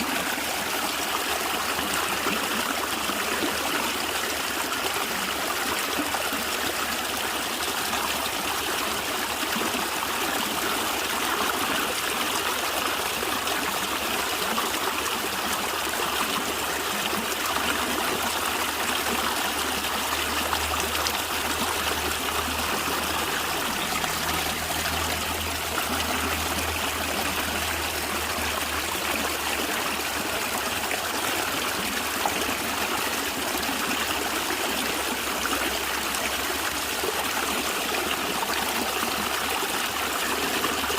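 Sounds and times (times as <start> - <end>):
stream water gurgling: 0.0 - 40.9.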